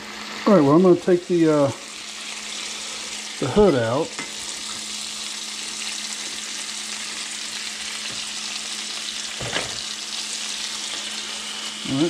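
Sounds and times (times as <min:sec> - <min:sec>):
octopus sizzling in a skillet: 0:00.0 - 0:12.0.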